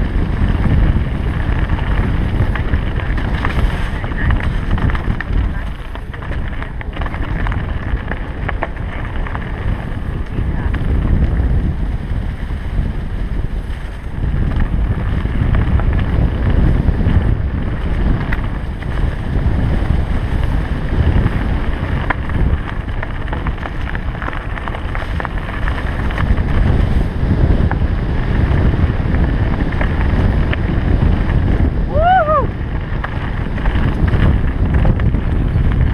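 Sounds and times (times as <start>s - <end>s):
tyres rolling through leaves and dirt: 0.0s - 35.9s
wind buffeting microphone: 0.0s - 35.9s.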